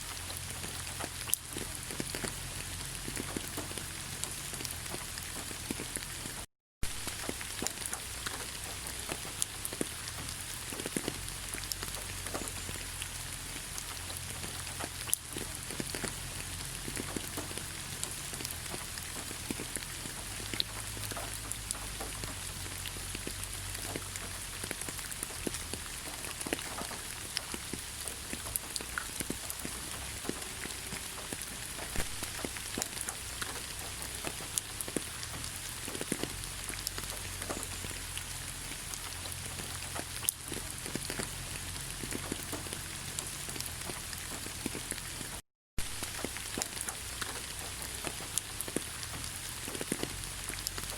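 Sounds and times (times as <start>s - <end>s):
raindrops ticking: 0.0s - 50.9s
steady rain hiss: 0.0s - 50.9s.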